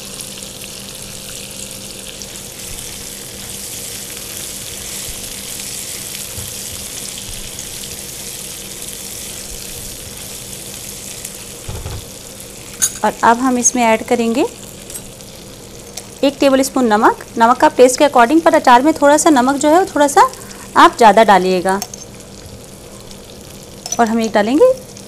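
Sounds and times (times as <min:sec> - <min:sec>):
mango pieces sizzling in oil: 0:00.0 - 0:25.0.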